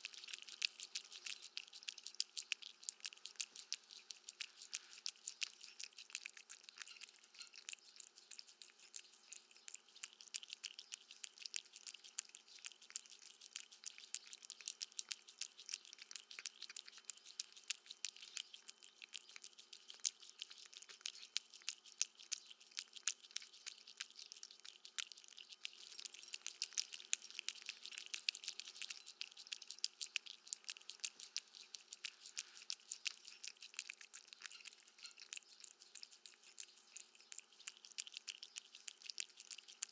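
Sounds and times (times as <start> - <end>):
cat chewing food: 0.0 - 39.9.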